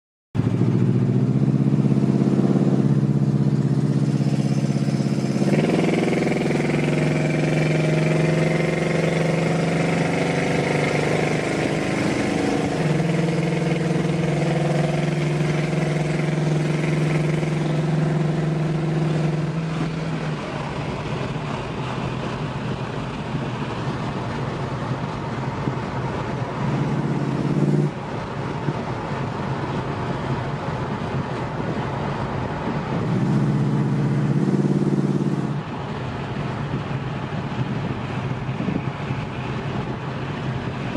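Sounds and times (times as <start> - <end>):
car engine from inside cabin: 0.4 - 40.9
road and wind noise: 0.4 - 40.9.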